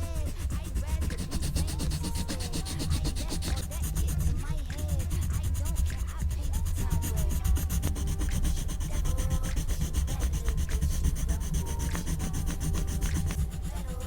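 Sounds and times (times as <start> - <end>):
pencil scratching on paper: 0.0 - 14.0.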